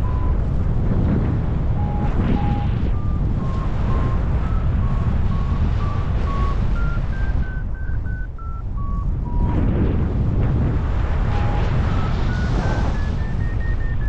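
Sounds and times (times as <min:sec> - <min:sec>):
variometer beeping: 0:00.0 - 0:00.6, 0:01.6 - 0:09.6, 0:11.2 - 0:14.0
wind rush on microphone: 0:00.0 - 0:14.0.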